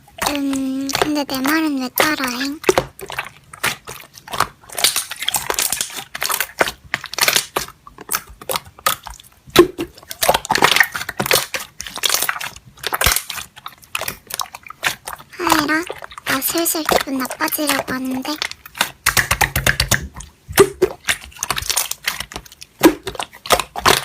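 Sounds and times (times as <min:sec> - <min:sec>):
slime squishing and popping: 0:00.0 - 0:24.0.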